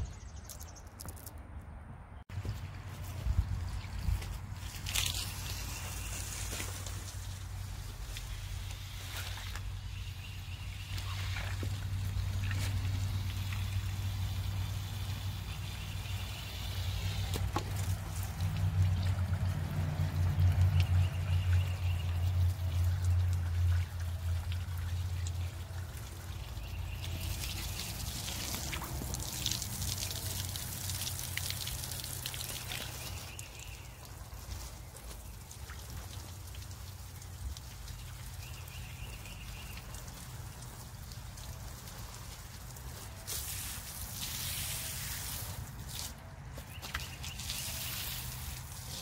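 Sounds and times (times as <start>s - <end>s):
hose water splashing on steps: 2.3s - 49.0s.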